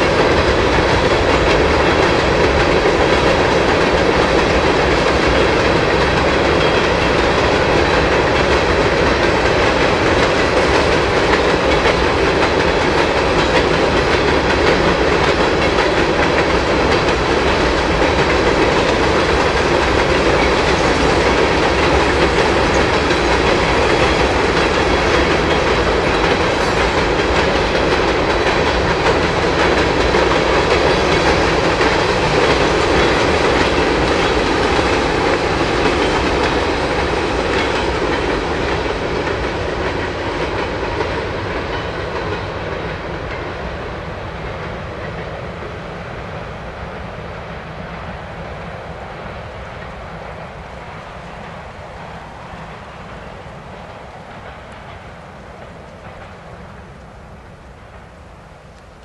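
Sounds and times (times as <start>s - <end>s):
freight train cars rolling past: 0.0s - 59.0s
train wheels clicking over rail joints: 0.0s - 59.0s.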